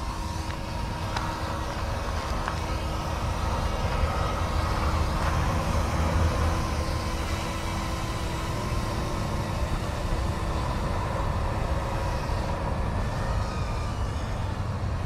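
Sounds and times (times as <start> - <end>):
rc helicopter motor whine: 0.0 - 15.0
rotor blades thrumming: 0.0 - 15.0.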